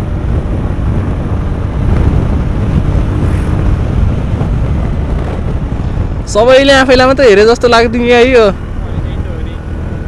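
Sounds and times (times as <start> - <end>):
motorcycle engine running: 0.0 - 10.0
wind rushing over microphone: 0.0 - 10.0.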